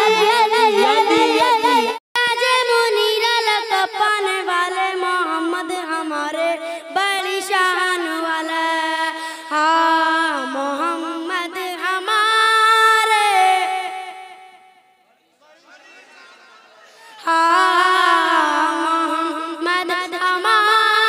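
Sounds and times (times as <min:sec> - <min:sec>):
boy singing a chant: 0:00.0 - 0:14.5, 0:17.2 - 0:21.0.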